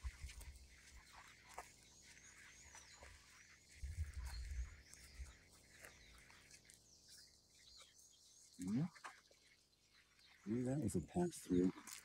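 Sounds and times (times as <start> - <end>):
footsteps in dry grass: 0.0 - 10.5, 11.6 - 12.0
faint bird chirps: 0.0 - 12.0.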